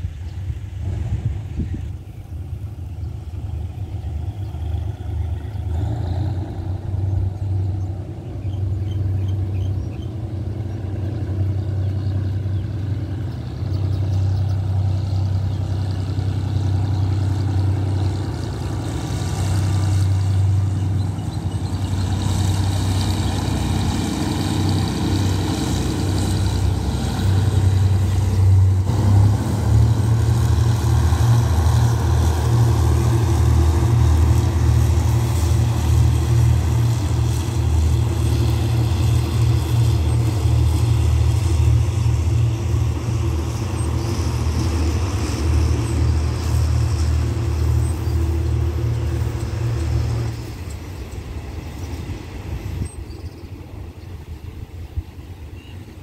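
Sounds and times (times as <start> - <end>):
locomotive engine drone: 0.0 - 56.0
train wheels on rails: 0.0 - 56.0.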